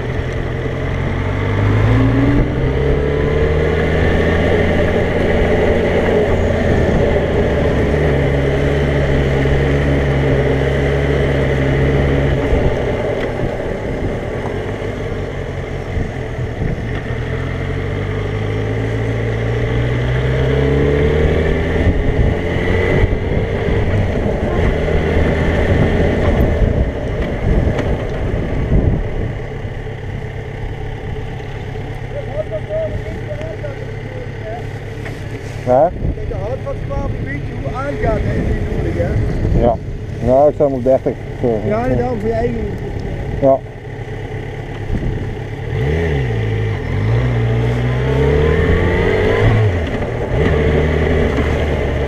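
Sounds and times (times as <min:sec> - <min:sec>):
motorcycle engine: 0:00.0 - 0:52.0.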